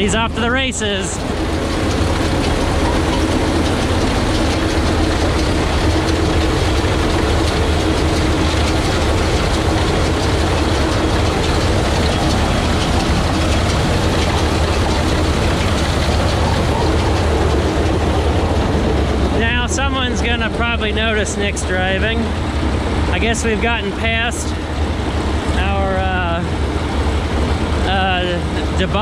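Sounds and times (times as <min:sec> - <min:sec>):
baler mechanical clatter: 0:00.0 - 0:29.0
tractor engine running: 0:00.0 - 0:29.0.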